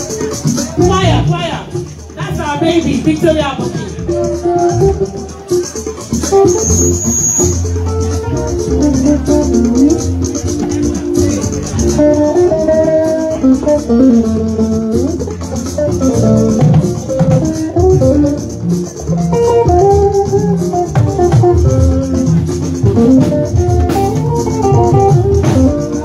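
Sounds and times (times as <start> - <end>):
bass guitar: 0.0 - 26.0
guitar: 0.0 - 26.0
shaker rattle: 0.0 - 26.0
steady drum beat: 0.0 - 26.0.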